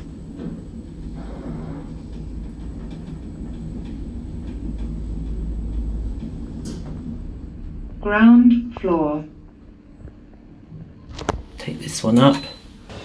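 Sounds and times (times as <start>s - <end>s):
lift rumbling: 0.0s - 13.0s.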